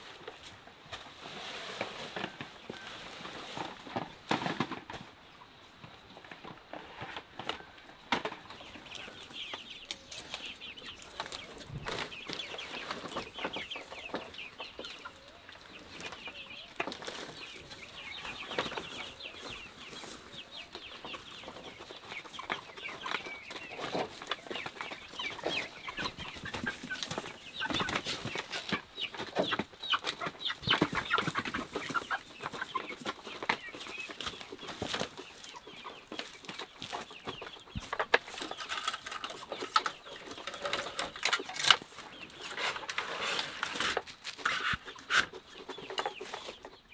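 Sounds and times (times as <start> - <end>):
chickens peeping and clucking: 0.0 - 46.9.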